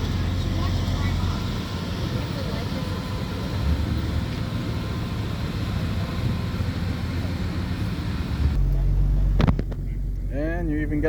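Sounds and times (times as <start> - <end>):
low rumble of vehicles: 0.0 - 11.0.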